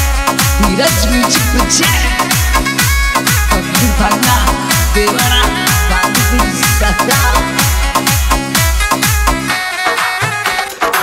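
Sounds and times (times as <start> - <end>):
heavy kick drums: 0.0 - 9.6
electronic dance beat: 0.0 - 11.0
bright melody: 0.6 - 11.0.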